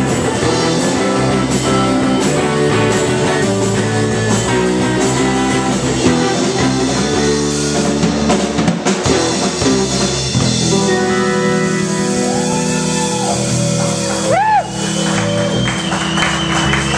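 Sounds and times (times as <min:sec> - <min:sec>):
rock band playing: 0:00.0 - 0:16.9.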